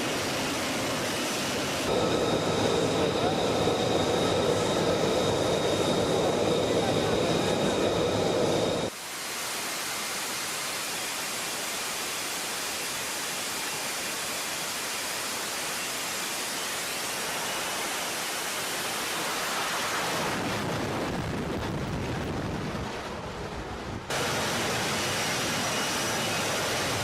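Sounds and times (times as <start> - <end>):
jet engine rushing: 0.0 - 8.9, 11.9 - 27.0.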